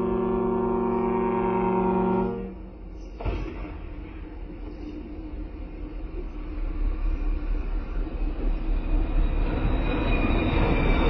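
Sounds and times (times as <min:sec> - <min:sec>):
train engine and wheel rumble: 0:00.0 - 0:11.0.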